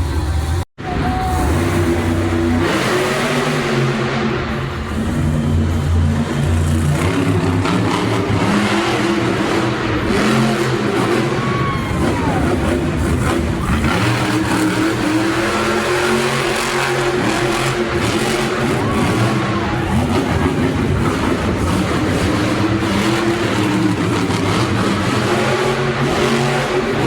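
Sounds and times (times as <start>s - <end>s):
monster truck engines revving: 0.0s - 27.0s.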